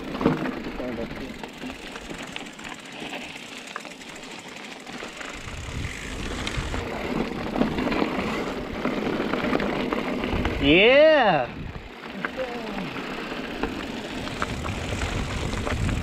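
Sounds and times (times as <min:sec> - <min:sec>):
bike tyres over gravel: 0:00.0 - 0:16.0
small rattles and clicks: 0:00.0 - 0:16.0.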